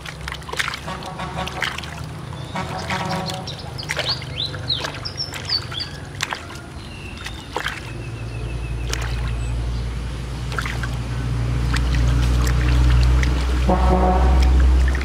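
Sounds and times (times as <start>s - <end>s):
low engine-like drone: 0.0s - 15.0s
water splashing in a basin: 0.0s - 15.0s.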